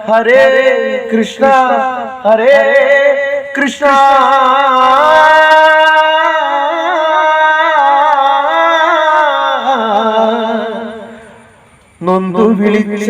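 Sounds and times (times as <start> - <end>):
person singing a long wordless note: 0.0 - 11.4, 12.0 - 13.0.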